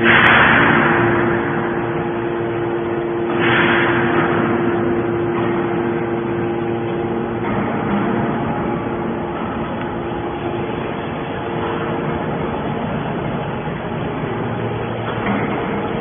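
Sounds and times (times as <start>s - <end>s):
pump motor hum: 0.0s - 16.0s.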